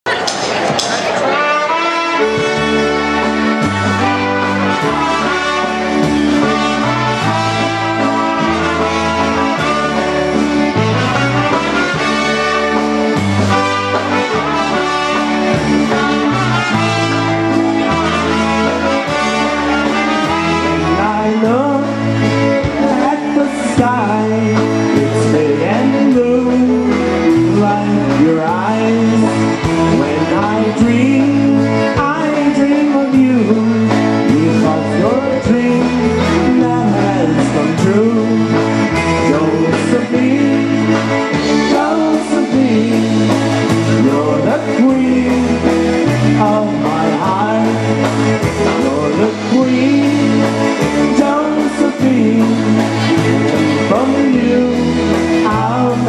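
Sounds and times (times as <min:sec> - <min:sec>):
bass line: 0:00.1 - 0:56.0
polka band playing waltz: 0:00.1 - 0:56.0.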